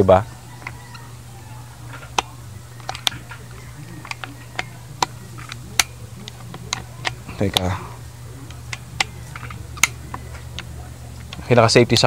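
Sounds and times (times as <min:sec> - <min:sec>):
air rifle mechanism clicks: 0:00.4 - 0:12.0.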